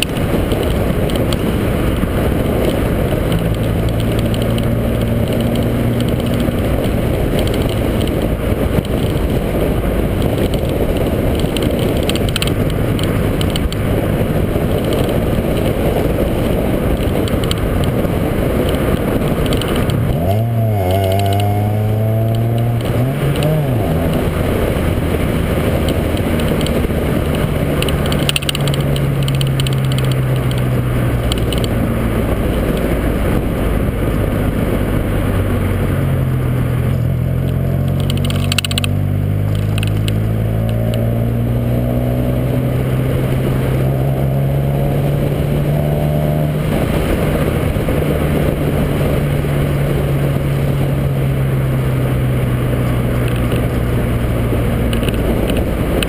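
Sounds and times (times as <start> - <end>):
car engine running: 0.0 - 56.0
wind and road noise: 0.0 - 56.0.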